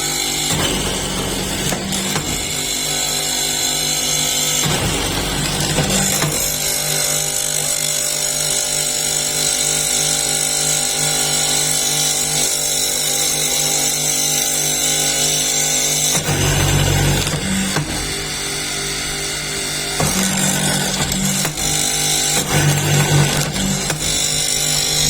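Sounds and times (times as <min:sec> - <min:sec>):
power tool electric motor running: 0:00.0 - 0:25.0.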